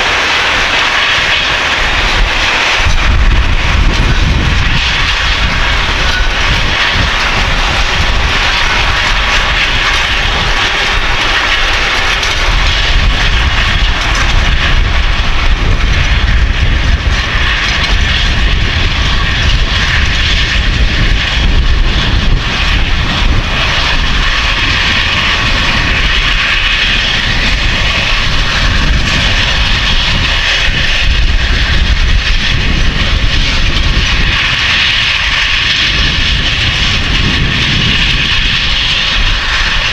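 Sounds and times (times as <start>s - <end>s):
broad rushing noise: 0.0s - 39.9s
tractor diesel engine running: 0.0s - 39.9s.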